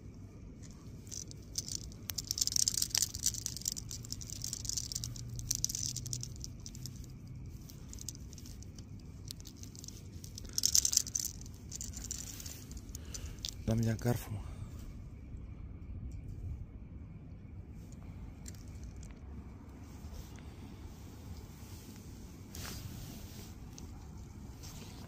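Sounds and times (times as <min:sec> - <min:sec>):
faint low hum: 0:00.0 - 0:25.0
crackly rustling of handling: 0:00.1 - 0:14.2, 0:17.7 - 0:25.0.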